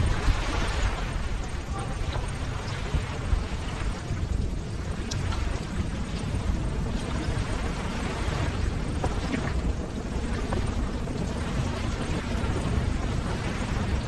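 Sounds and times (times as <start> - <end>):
ocean waves washing: 0.0 - 14.0.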